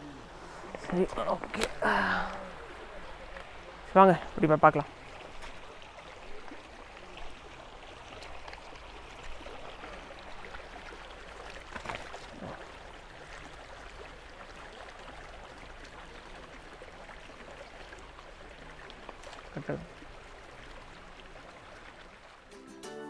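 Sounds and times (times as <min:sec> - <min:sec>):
running water flowing: 0:00.0 - 0:22.8.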